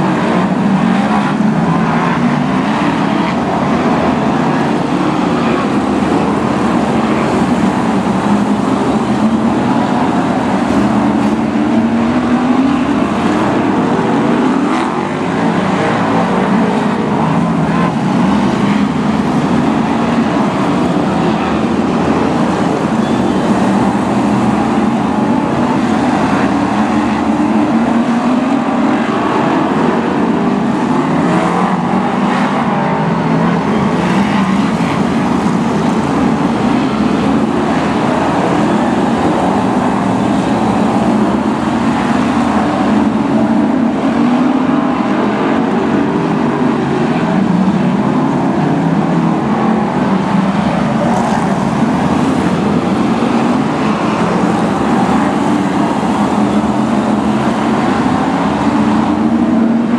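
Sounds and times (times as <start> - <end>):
racing car engines: 0.0 - 59.9.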